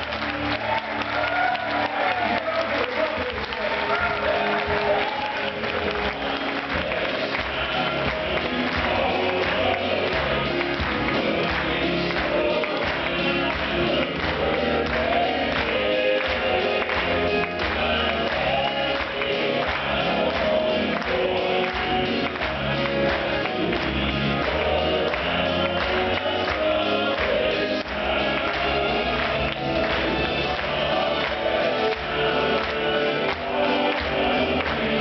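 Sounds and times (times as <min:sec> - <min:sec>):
instrumental accompaniment: 0:00.0 - 0:35.0
male quartet singing in harmony: 0:00.0 - 0:35.0.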